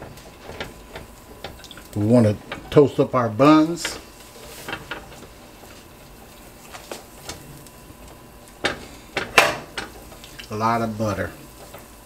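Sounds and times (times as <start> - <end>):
butter sizzling on a griddle: 0.0 - 12.0.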